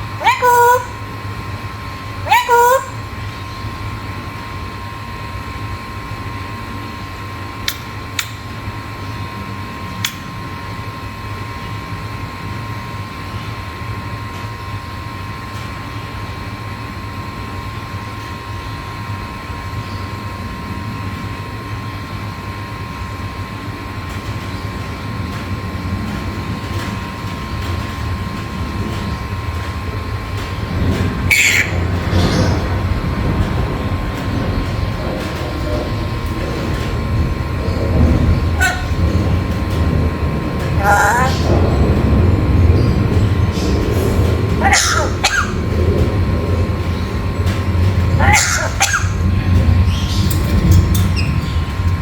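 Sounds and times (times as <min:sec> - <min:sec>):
mechanical hum with high tone: 0:00.0 - 0:52.0.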